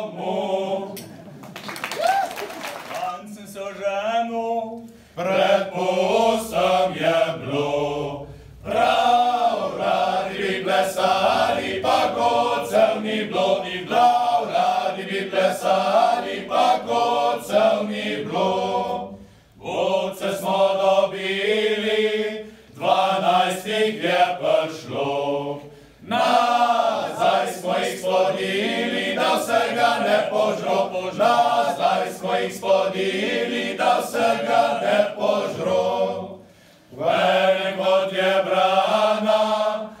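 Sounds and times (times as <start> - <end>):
male vocal group singing a cappella: 0.0 - 1.2, 3.2 - 40.0.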